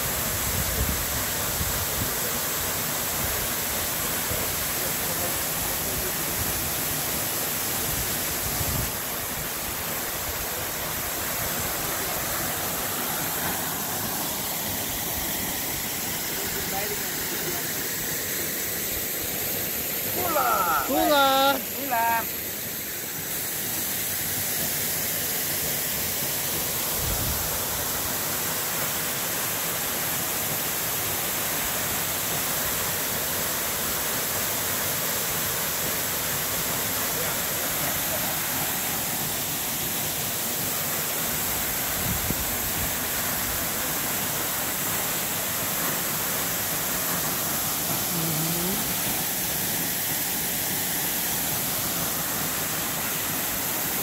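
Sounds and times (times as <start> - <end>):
waterfall pouring into pool: 0.0 - 54.0.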